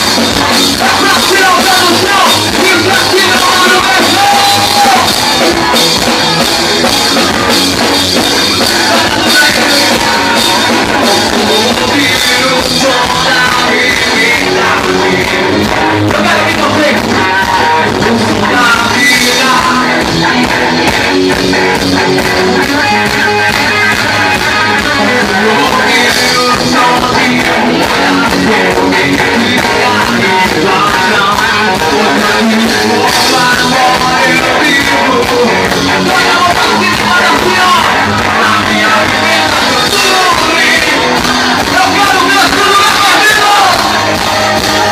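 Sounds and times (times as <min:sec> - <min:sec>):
drums: 0:00.0 - 0:44.9
electric guitar: 0:00.0 - 0:44.9
live band playing rock song: 0:00.0 - 0:44.9
person singing: 0:00.0 - 0:44.9.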